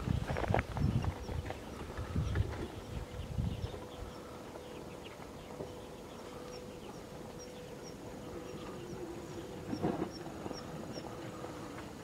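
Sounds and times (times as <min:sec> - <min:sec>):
faint steady hum: 0:00.0 - 0:12.0
low rumble of wind: 0:00.0 - 0:12.0
small birds chirping: 0:00.0 - 0:12.0.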